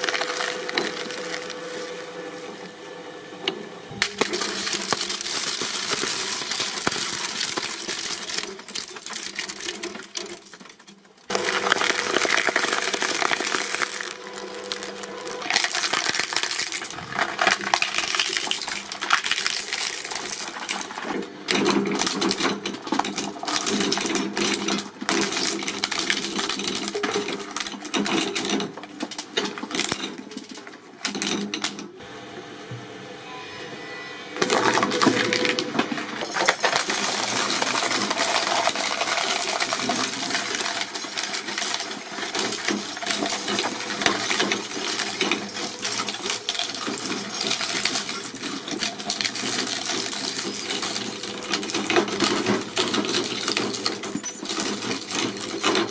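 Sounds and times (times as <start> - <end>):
shredding machine clattering: 0.0 - 32.2, 34.4 - 55.9.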